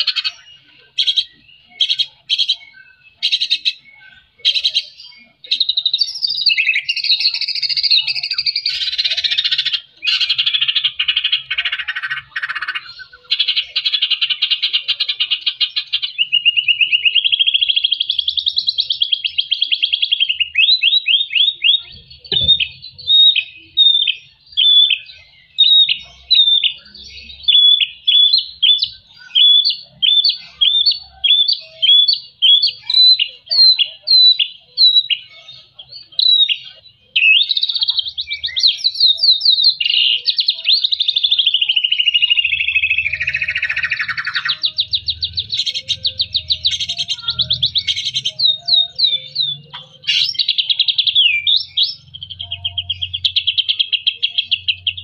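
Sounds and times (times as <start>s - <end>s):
bird singing: 0.0s - 55.0s.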